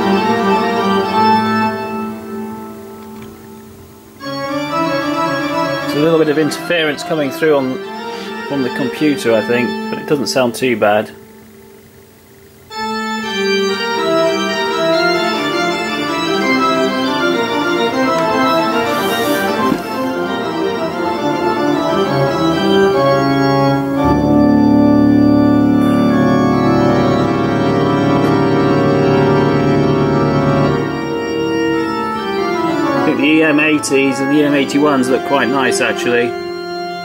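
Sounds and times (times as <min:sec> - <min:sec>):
held chords through loudspeakers: 0:00.0 - 0:37.0.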